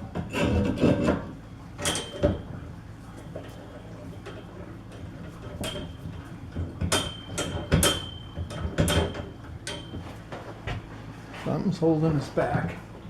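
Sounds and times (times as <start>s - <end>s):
metal collar knocking and scraping: 0.1s - 10.9s.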